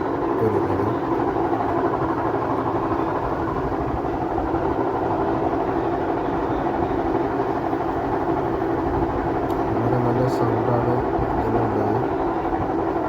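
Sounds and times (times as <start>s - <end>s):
washing machine spin rumble: 0.0s - 13.0s.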